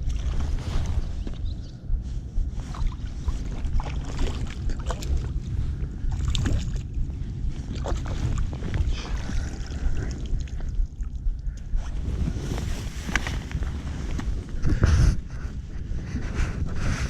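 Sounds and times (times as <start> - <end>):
water lapping: 0.0 - 1.4, 2.0 - 16.7
wind rumbling on microphone: 0.0 - 17.0.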